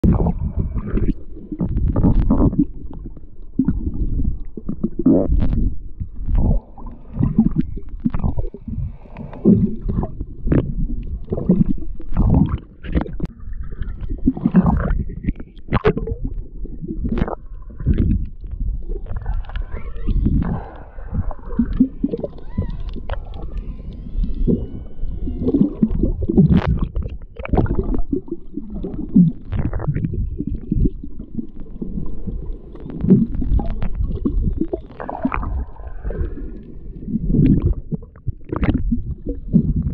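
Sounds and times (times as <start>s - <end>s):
underwater water churning: 0.0s - 39.9s.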